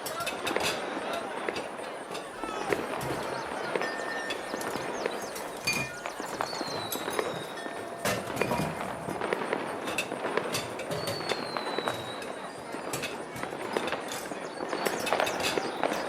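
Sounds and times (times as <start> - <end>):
firework whistles: 0.0 - 16.0
fireworks popping and crackling: 0.0 - 16.0.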